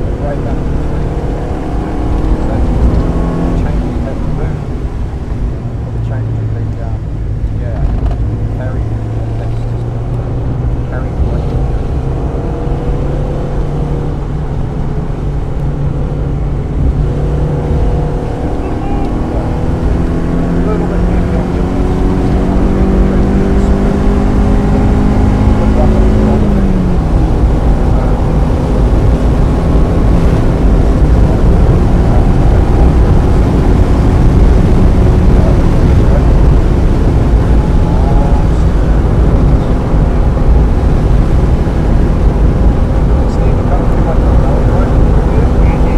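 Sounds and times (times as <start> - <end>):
car engine under load: 0.0 - 45.9
tyre and road noise: 0.0 - 45.9.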